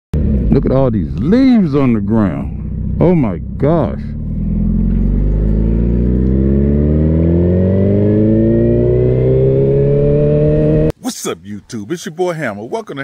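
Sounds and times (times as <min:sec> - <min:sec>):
motorcycle engine accelerating: 0:00.1 - 0:10.9.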